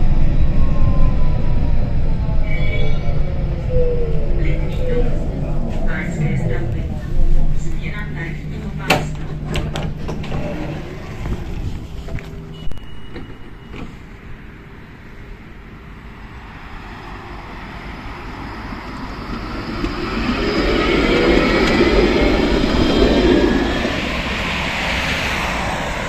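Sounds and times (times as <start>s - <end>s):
tram motor whine: 0.0s - 26.0s
wheels rumbling on rail: 0.0s - 26.0s.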